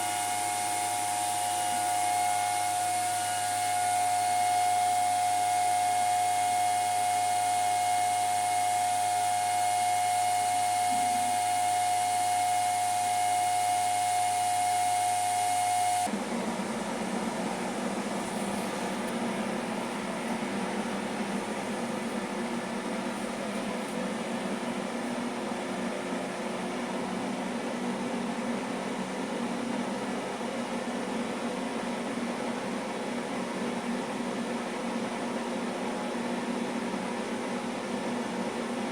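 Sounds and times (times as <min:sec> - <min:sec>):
cooling fans whining: 0:00.0 - 0:38.9.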